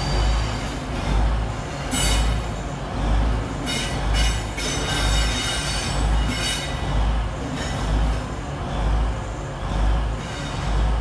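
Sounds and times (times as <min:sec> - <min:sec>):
train wheels squealing on rails: 0:00.0 - 0:11.0.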